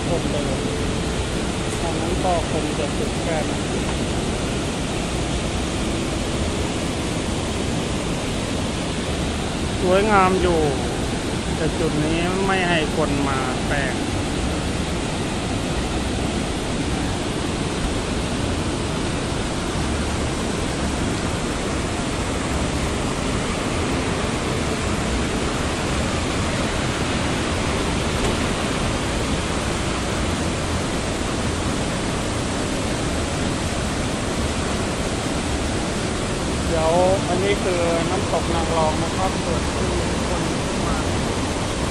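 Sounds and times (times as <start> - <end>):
waterfall rushing over boulders: 0.0 - 41.9.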